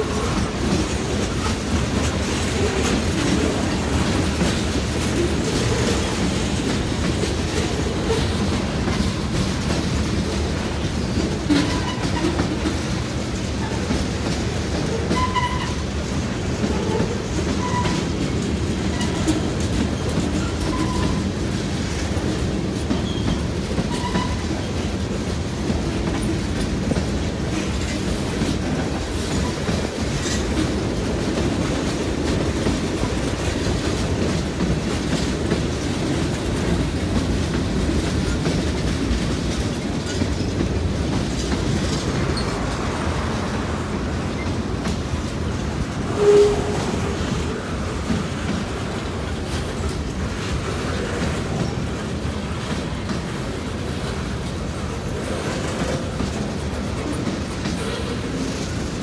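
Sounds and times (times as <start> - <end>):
freight train rolling past: 0.0 - 59.0
steel wheels clattering over rail joints: 0.0 - 59.0.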